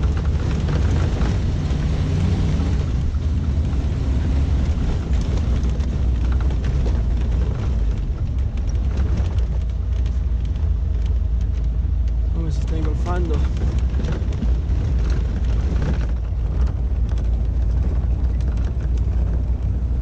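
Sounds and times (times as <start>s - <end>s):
small clicks and rattles: 0.0s - 1.8s, 4.6s - 20.0s
engine and drivetrain rumble: 0.0s - 20.0s.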